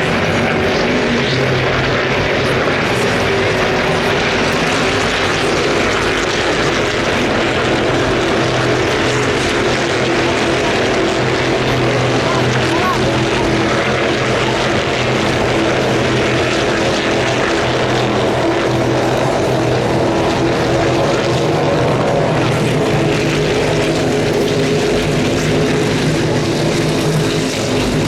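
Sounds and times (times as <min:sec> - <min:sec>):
racing car engines droning: 0:00.0 - 0:28.0.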